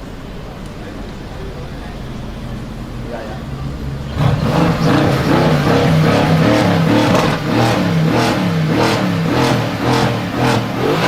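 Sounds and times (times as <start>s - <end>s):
loud car exhaust revving: 0.0s - 11.0s.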